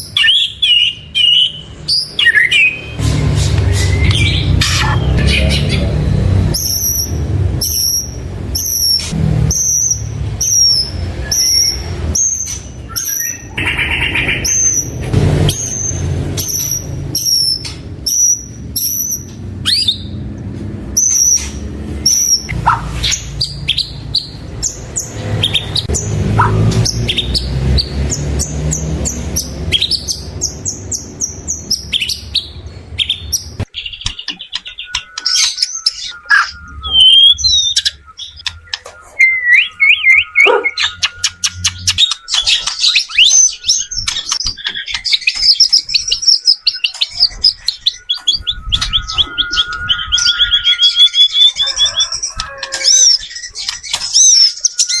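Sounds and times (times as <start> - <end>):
bird singing whistles: 0.0 - 3.0, 3.6 - 20.2, 21.0 - 28.0, 29.0 - 55.0.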